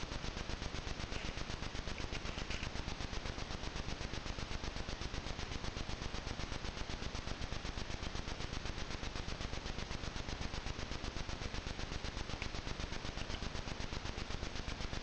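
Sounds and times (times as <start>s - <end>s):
electronic hiss with rapid pulse: 0.0s - 15.0s.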